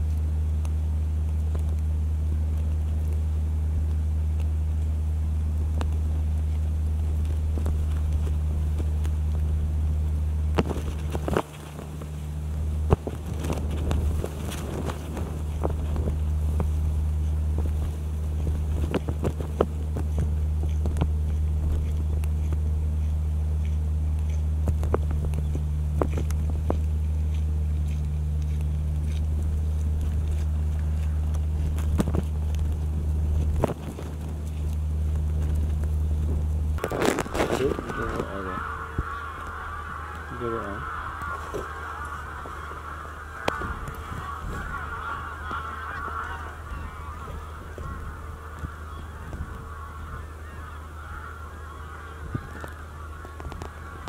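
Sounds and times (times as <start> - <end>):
faint clicks and crackles: 0.0 - 54.0
loud low drone: 0.0 - 54.0.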